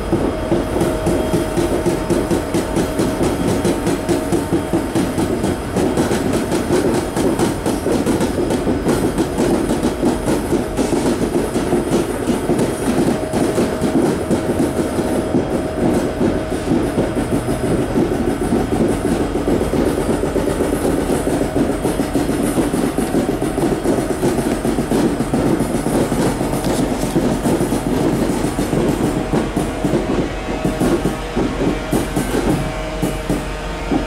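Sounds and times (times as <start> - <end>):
diesel locomotive engines rumbling: 0.0 - 34.0
wheels clattering over rail joints: 0.0 - 34.0.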